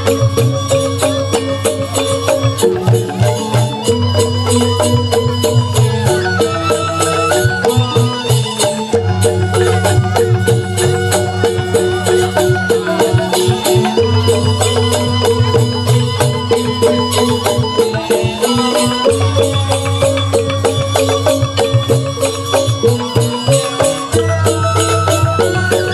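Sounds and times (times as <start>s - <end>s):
bamboo flutes playing: 0.0s - 25.9s
metallophones struck in interlocking figures: 0.0s - 25.9s.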